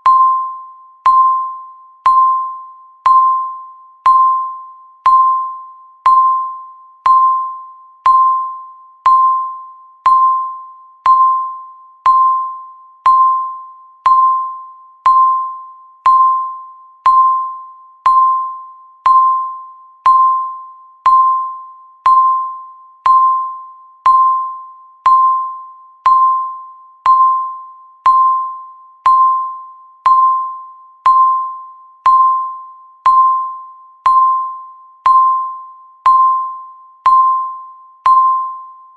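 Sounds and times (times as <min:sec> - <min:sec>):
countdown timer beeping: 0:00.0 - 0:38.8.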